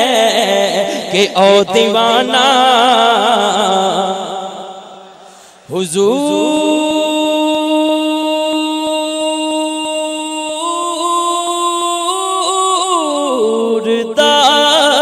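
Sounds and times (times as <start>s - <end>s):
man chanting unaccompanied: 0.0s - 5.0s, 5.7s - 15.0s.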